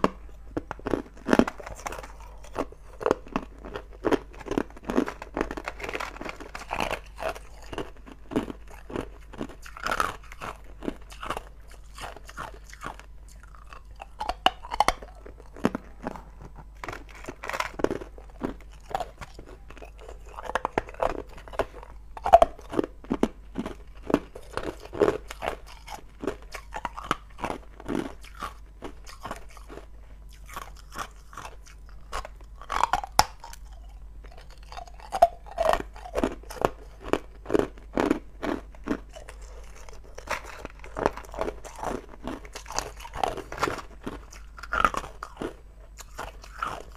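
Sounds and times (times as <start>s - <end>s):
ice cubes crunching in mouth: 0.0s - 46.9s.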